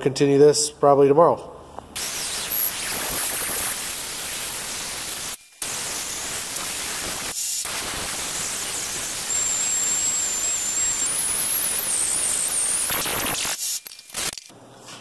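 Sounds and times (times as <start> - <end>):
pneumatic die grinder whining: 2.0 - 14.5.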